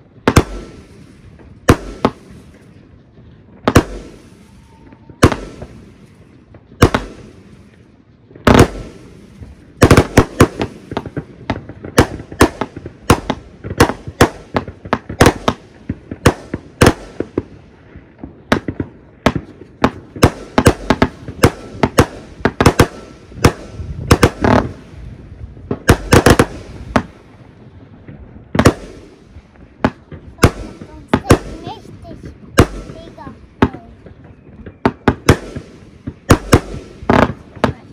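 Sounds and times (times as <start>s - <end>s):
fireworks exploding: 0.0s - 37.9s.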